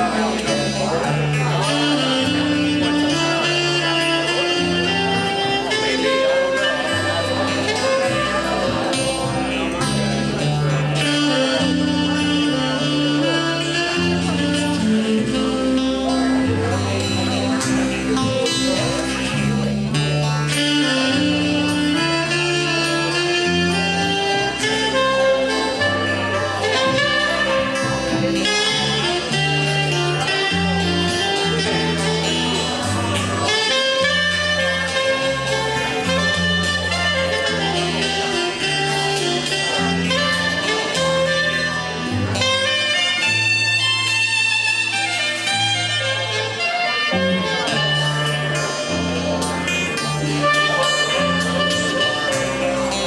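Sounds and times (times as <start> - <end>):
saxophone melody: 0.0 - 53.0
small band playing: 0.0 - 53.0.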